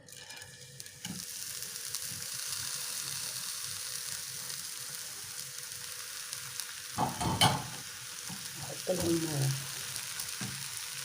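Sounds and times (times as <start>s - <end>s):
grain sizzling in a frying pan: 0.0s - 11.0s.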